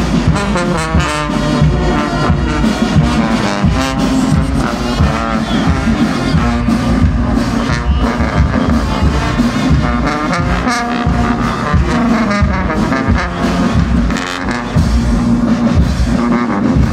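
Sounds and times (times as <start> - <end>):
brass band playing: 0.0 - 16.9.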